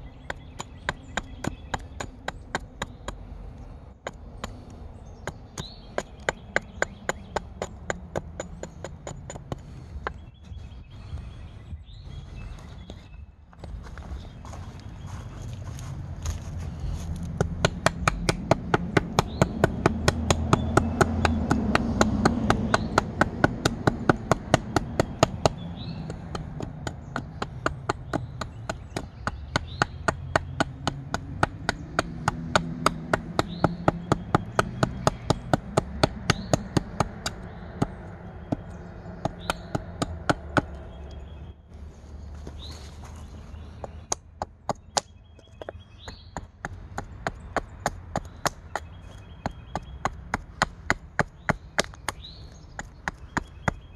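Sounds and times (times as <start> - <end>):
hatchet chopping wood: 0.1 - 3.3, 4.0 - 10.2, 17.2 - 41.2, 43.7 - 53.9.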